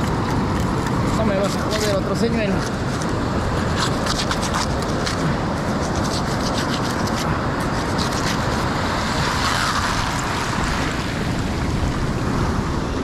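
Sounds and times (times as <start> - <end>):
surf washing on beach: 0.0 - 13.0.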